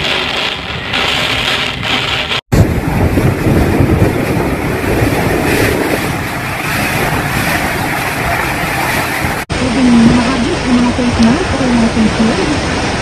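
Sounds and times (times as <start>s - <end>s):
heavy rain: 0.0s - 13.0s
strong wind: 0.0s - 13.0s.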